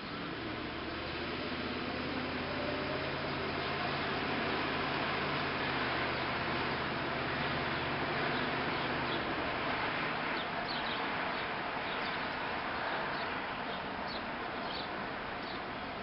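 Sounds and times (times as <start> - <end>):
truck engine rolling slowly: 0.0 - 16.0.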